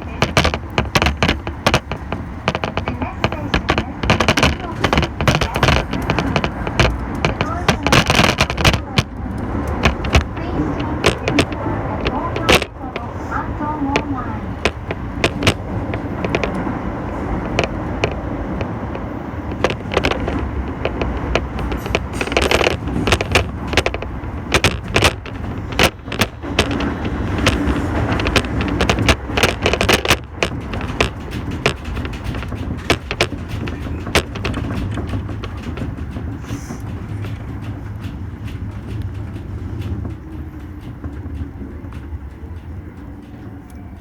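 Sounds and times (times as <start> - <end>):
subway train rumble: 0.0 - 44.0
wheels clicking and clattering: 0.0 - 44.0.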